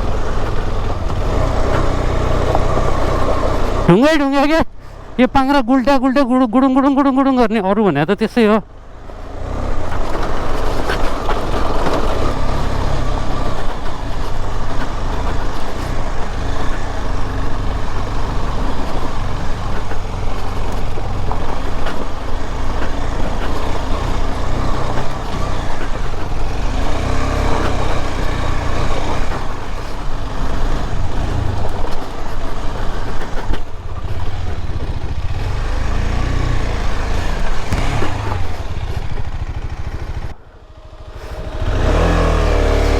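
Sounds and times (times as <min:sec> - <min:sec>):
wheels bumping over stones: 0:00.0 - 0:04.6, 0:08.3 - 0:42.9
motorcycle engine running: 0:00.0 - 0:42.9.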